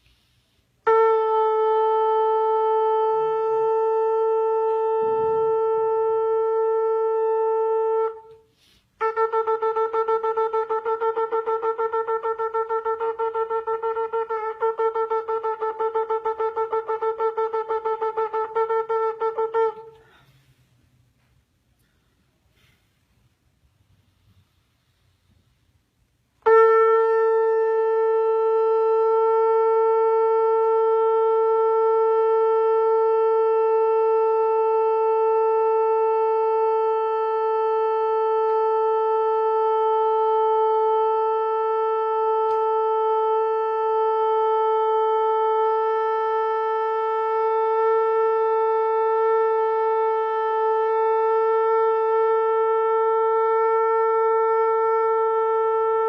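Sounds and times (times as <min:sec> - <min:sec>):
shofar long note: 0:00.0 - 0:56.0.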